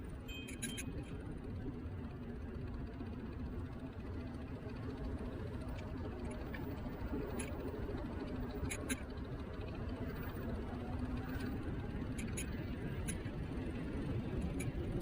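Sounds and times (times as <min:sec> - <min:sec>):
wind and tyres rumbling: 0:00.0 - 0:15.0.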